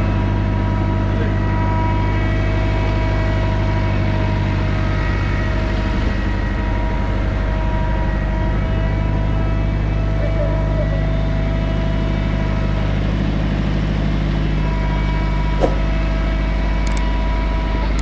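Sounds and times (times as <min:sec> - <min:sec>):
crane engine humming: 0:00.0 - 0:18.0.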